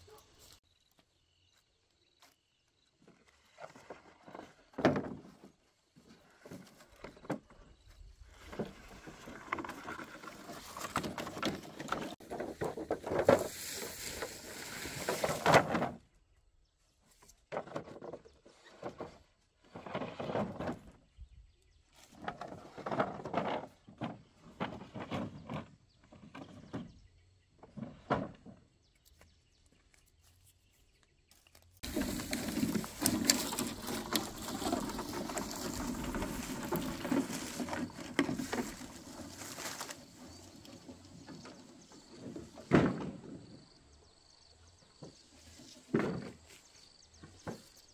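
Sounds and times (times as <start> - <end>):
bamboo poles knocking and scraping: 3.0 - 16.0, 17.1 - 21.0, 21.9 - 43.5, 45.0 - 47.9.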